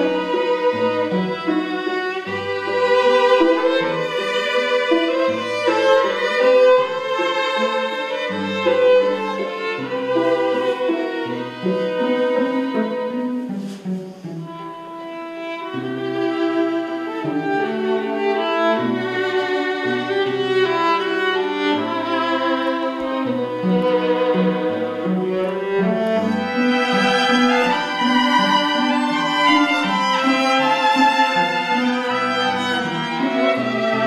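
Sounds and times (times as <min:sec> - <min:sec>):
violin melody: 0:00.0 - 0:34.0.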